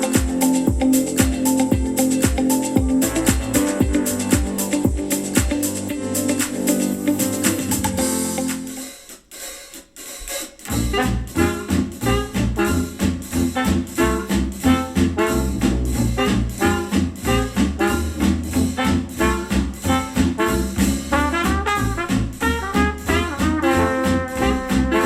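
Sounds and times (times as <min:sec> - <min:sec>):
jazz tune with brass and drums: 0:00.0 - 0:25.0
music track: 0:00.0 - 0:25.0.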